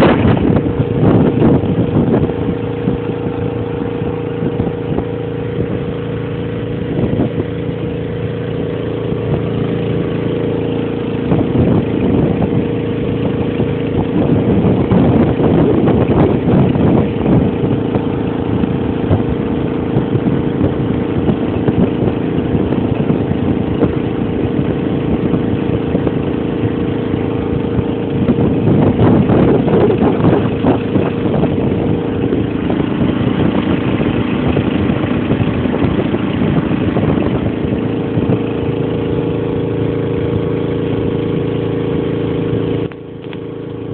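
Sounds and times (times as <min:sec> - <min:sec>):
boat motor running: 0:00.0 - 0:43.9
water rushing along hull: 0:00.0 - 0:43.9.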